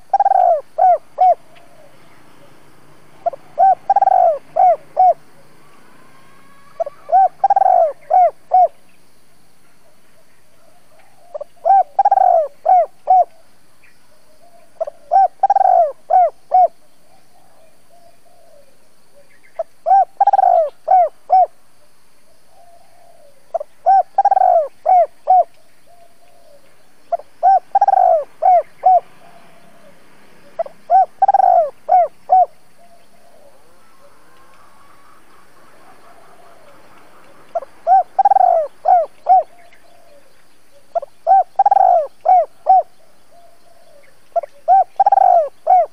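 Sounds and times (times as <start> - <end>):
dove cooing: 0.0 - 8.8, 10.6 - 13.5, 14.2 - 21.6, 22.5 - 45.9.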